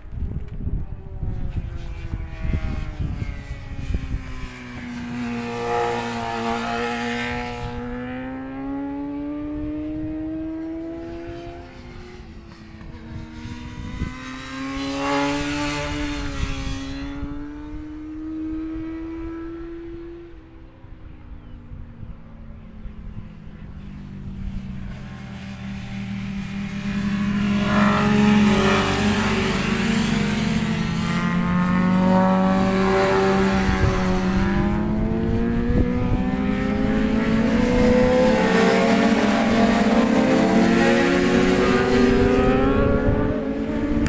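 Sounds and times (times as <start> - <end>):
racing motorcycle engines passing: 0.0 - 44.0
wind buffeting microphone: 0.0 - 44.0.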